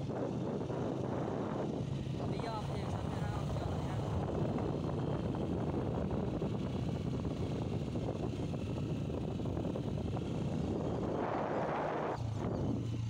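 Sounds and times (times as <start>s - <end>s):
vehicle rumble: 0.0s - 13.0s
wind noise on microphone: 0.0s - 13.0s.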